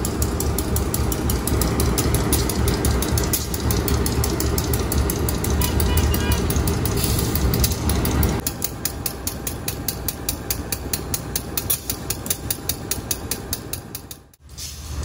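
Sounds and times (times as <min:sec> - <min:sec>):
train clicking on rails: 0:00.0 - 0:15.0
train rumble: 0:00.0 - 0:15.0.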